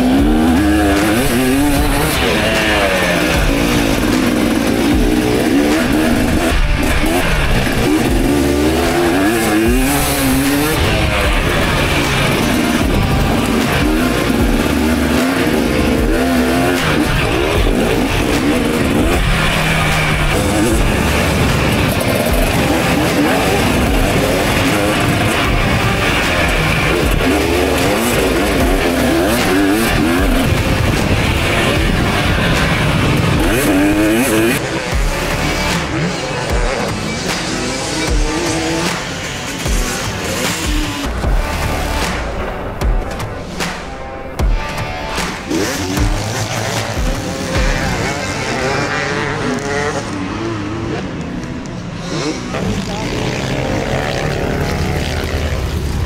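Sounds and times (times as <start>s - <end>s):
motocross bike engine revving: 0.0s - 56.0s
music: 0.0s - 56.0s.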